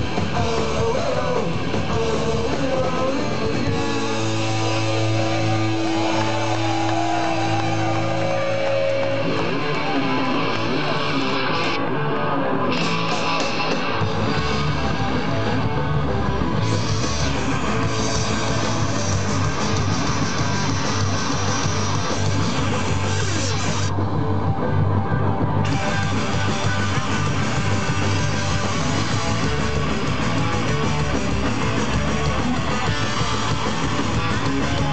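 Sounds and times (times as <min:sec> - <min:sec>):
bass guitar: 0:00.0 - 0:34.9
drums: 0:00.0 - 0:34.9
electric guitars: 0:00.0 - 0:34.9
punk rock band playing live: 0:00.0 - 0:34.9.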